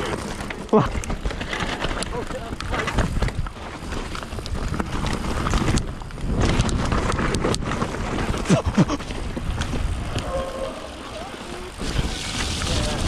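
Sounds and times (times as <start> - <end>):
bike rolling over branches: 0.0 - 13.0
wind on microphone: 0.9 - 13.0.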